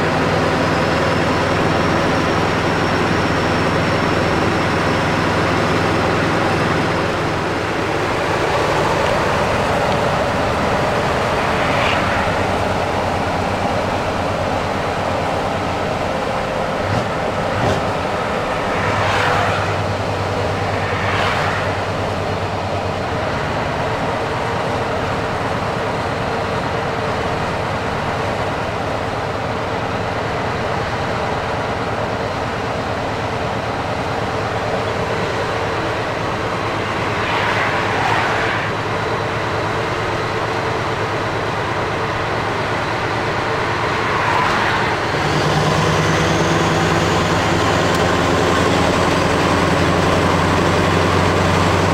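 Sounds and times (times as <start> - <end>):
road and wind noise: 0.0 - 51.9
truck engine drone: 0.0 - 51.9.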